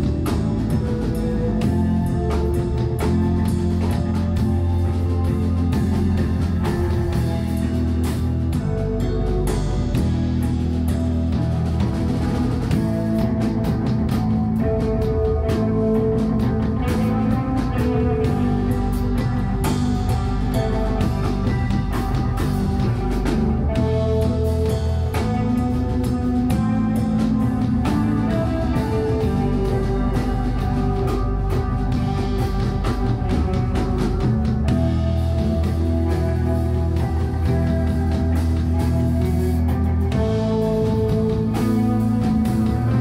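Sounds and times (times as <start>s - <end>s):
held electric guitar notes: 0.0s - 43.0s
rock band playing: 0.0s - 43.0s
steady drum beat: 0.0s - 43.0s.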